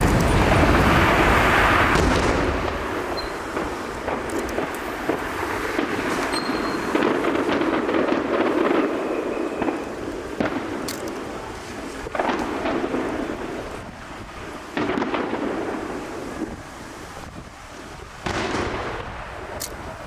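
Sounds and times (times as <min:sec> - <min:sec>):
fireworks bursting with booms: 0:00.0 - 0:20.0.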